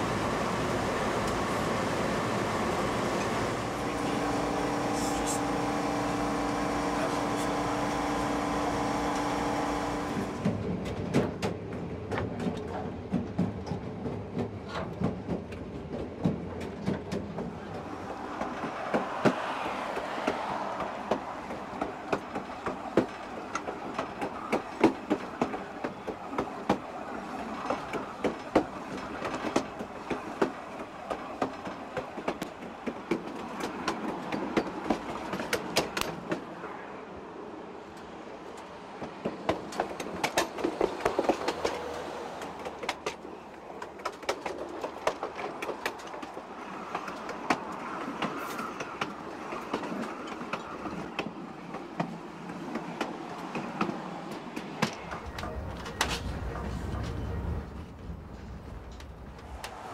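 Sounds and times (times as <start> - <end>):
wheels clicking over rails: 0.0 - 36.6, 37.9 - 59.9
train rolling noise: 0.0 - 59.9.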